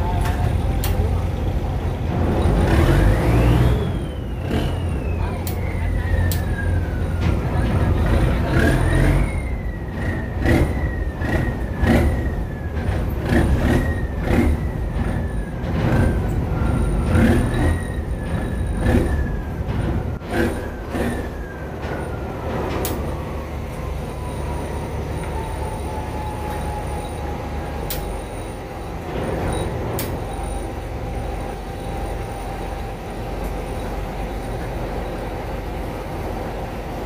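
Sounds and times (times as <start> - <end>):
boat engine revving: 0.0 - 36.6.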